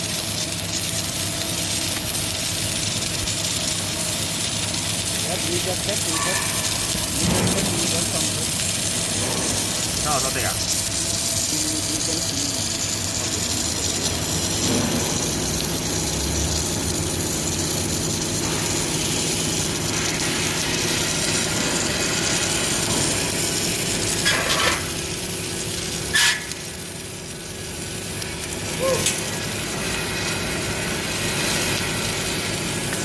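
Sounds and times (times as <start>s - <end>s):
welding crackling hiss: 0.0s - 33.0s.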